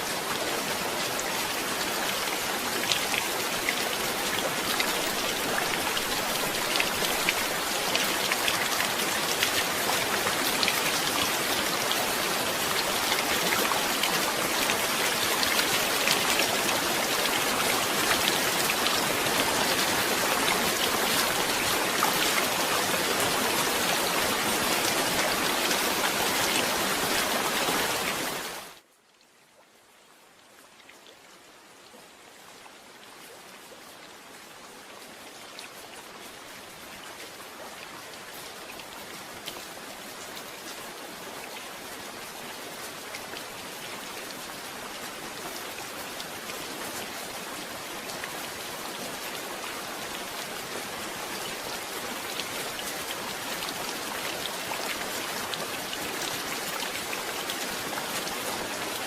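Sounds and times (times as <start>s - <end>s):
heavy rain pattering: 0.0s - 28.8s, 35.3s - 59.0s.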